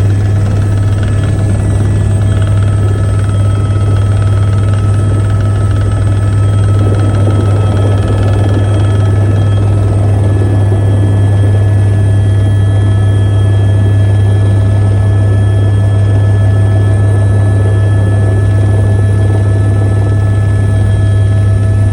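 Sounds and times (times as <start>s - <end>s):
helicopter rotor drone: 0.0s - 21.9s
high-pitched turbine whine: 0.0s - 21.9s.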